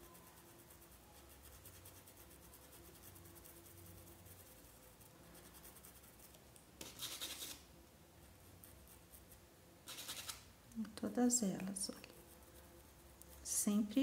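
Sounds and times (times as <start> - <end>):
paintbrush scratchy strokes: 0.0 - 10.5, 11.7 - 14.0.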